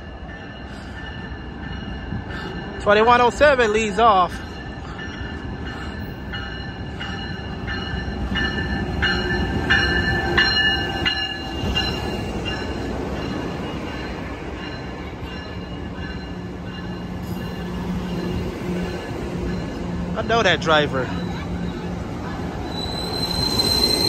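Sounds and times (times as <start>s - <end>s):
locomotive bell ringing: 0.0s - 24.0s
train wheels rumbling on rails: 0.0s - 24.0s.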